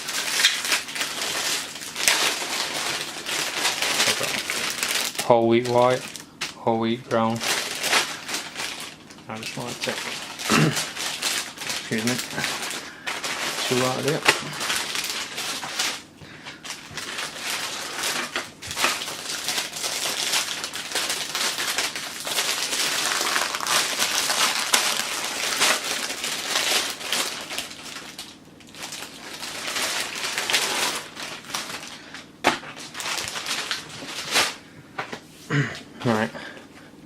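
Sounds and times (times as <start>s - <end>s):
plastic packaging crinkling: 0.0s - 34.6s.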